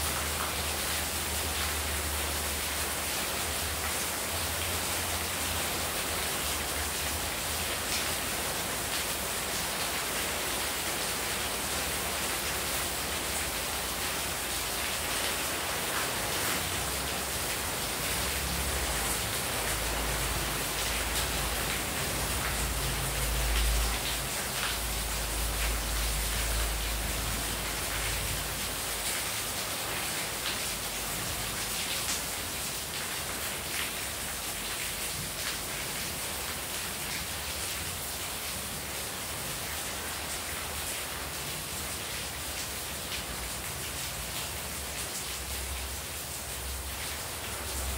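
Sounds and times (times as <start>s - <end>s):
heavy rain falling: 0.0s - 47.9s
water splashing onto tiles: 0.0s - 47.9s.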